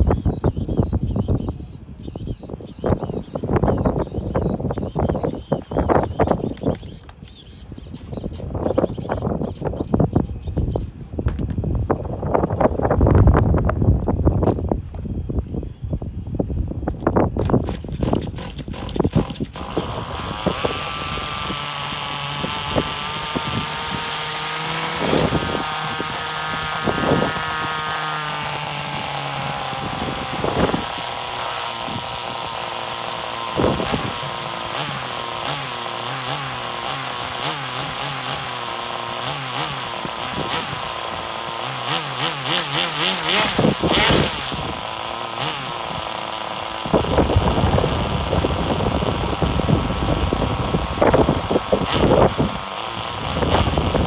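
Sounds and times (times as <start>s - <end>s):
small engine high-pitched buzz: 0.0s - 11.0s, 17.4s - 54.0s.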